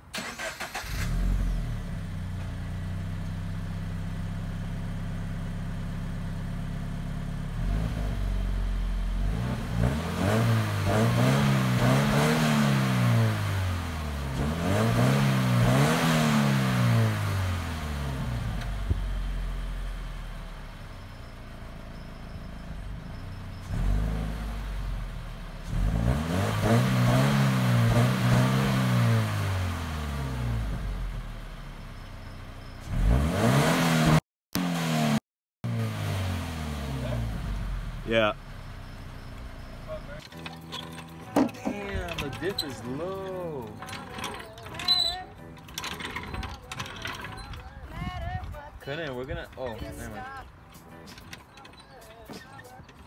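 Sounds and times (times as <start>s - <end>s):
car engine idling and revving: 0.0s - 51.8s.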